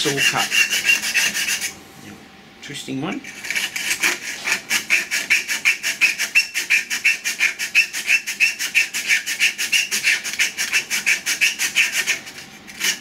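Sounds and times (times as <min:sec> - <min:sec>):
abrasive cloth sanding wood: 0:00.0 - 0:01.8, 0:03.3 - 0:13.0.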